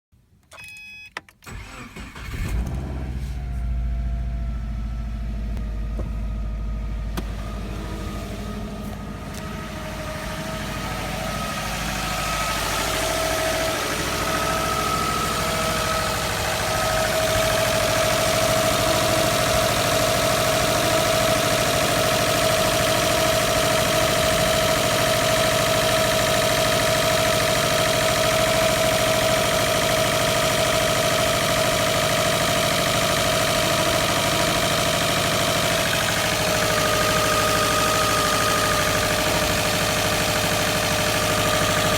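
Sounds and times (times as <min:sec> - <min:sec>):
car engine starting: 0:01.4 - 0:41.9
engine whine: 0:01.5 - 0:41.9.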